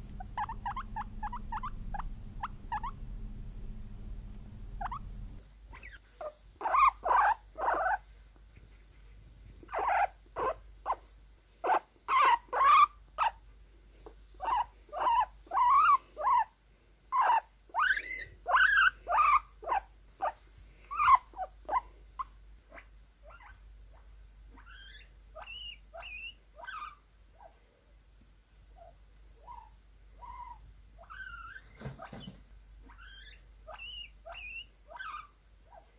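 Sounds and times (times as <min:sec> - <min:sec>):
guinea pig squeaking: 0:00.0 - 0:03.1, 0:04.6 - 0:08.1, 0:09.6 - 0:13.5, 0:14.3 - 0:27.6, 0:28.7 - 0:35.9.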